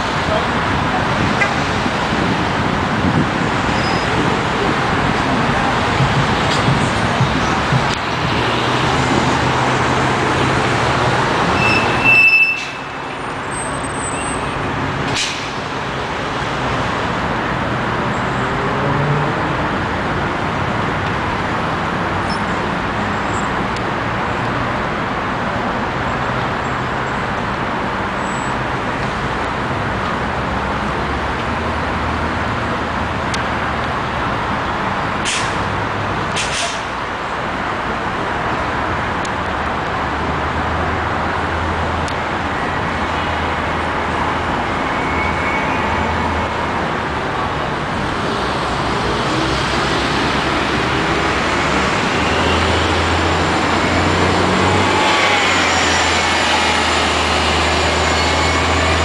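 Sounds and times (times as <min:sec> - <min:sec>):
buses passing: 0:00.0 - 0:59.0
street traffic roar: 0:00.0 - 0:59.0.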